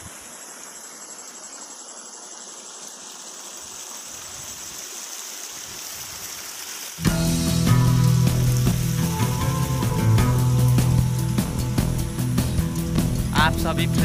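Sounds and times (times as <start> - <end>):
high thin insect trill: 0.0 - 14.0
steady rushing hiss: 0.0 - 14.0.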